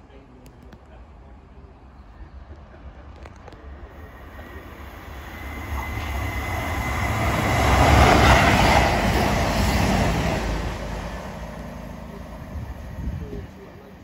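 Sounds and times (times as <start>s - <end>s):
train passing on rails: 0.8s - 14.0s.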